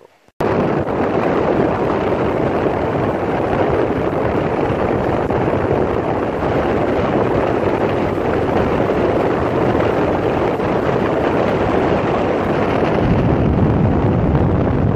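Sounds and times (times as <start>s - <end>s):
road noise from moving vehicle: 0.0s - 14.9s
wind buffeting microphone: 0.0s - 14.9s.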